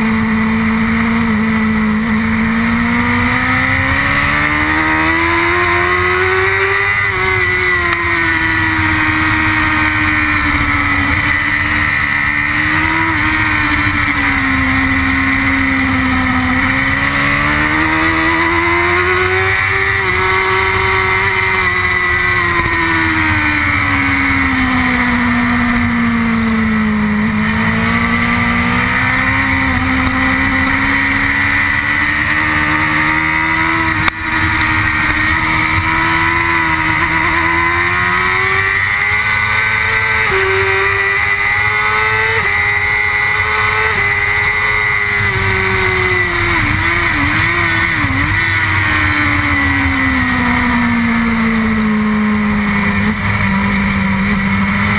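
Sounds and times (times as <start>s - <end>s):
motorcycle engine at racing speed: 0.0s - 54.9s.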